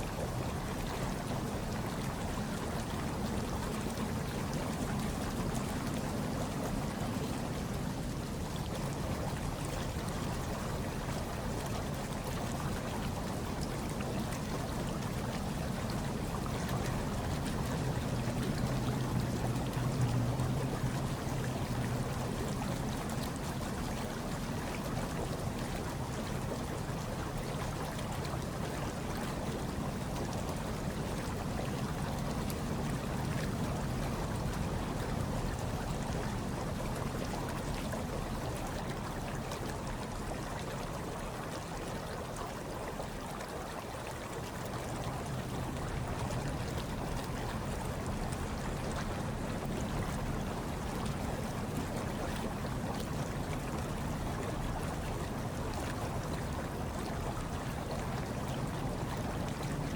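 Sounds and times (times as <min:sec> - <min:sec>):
hot tub water bubbling: 0:00.0 - 0:59.9.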